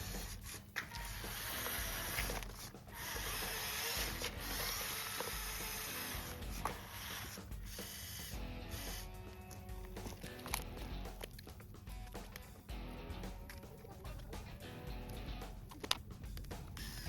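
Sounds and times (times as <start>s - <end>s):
electric motor and gears whirring: 0.0s - 13.5s, 14.8s - 17.0s.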